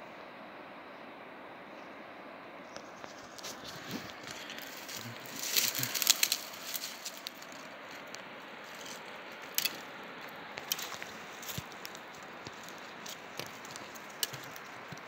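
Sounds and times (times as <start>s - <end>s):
dry twigs crackling and rustling: 2.9s - 15.0s.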